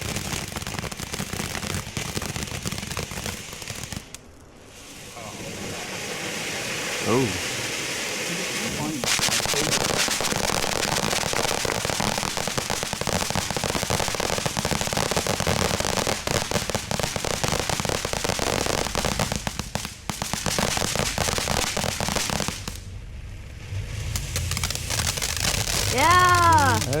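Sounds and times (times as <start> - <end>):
firework crackling: 0.0 - 27.0.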